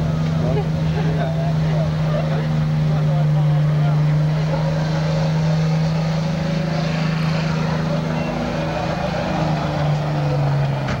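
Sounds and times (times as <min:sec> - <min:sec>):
diesel engine droning: 0:00.0 - 0:11.0
faint crowd voices: 0:00.0 - 0:11.0.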